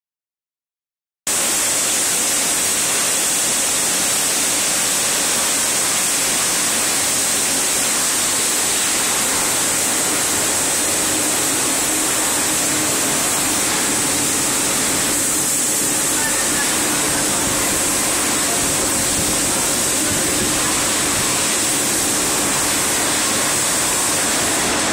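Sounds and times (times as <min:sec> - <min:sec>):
brush sanding machine hissing: 0:01.4 - 0:24.9.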